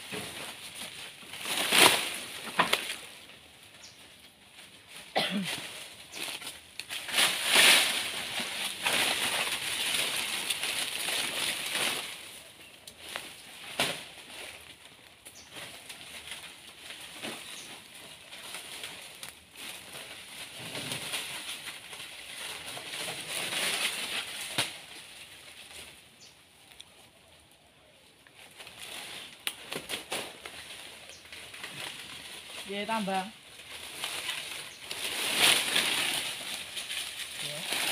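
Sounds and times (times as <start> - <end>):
dry leaves rustling: 0.0 - 37.9
leaves snapping: 0.1 - 3.9, 5.6 - 26.0, 28.3 - 37.9.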